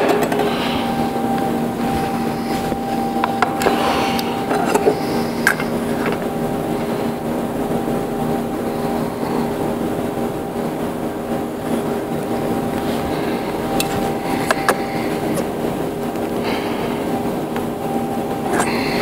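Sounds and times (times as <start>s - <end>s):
power sander motor running: 0.0s - 19.0s.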